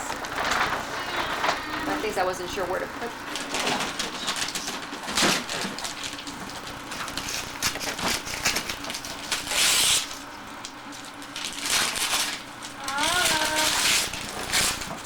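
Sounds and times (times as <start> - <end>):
wrapping paper tearing: 0.0 - 2.2, 3.2 - 15.0.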